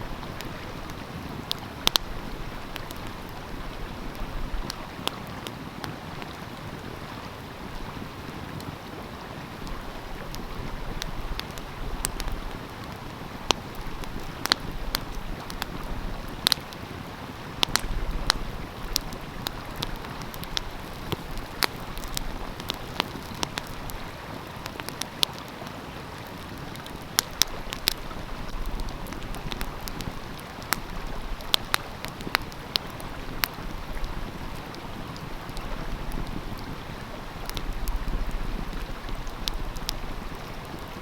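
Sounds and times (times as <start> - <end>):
stream water flowing: 0.0 - 41.0
wood fire crackling: 0.0 - 41.0.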